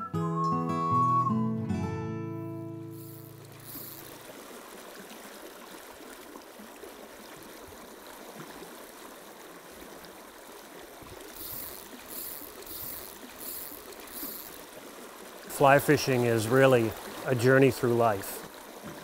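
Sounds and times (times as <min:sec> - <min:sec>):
river water rushing over stones: 0:03.0 - 0:19.0.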